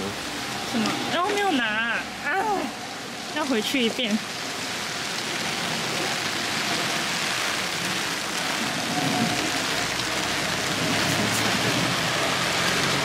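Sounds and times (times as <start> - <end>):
heavy rain on standing water: 0.0 - 13.0.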